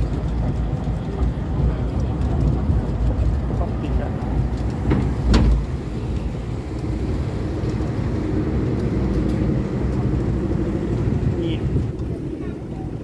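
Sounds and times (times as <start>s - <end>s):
vehicle rumble from inside: 0.0s - 13.0s.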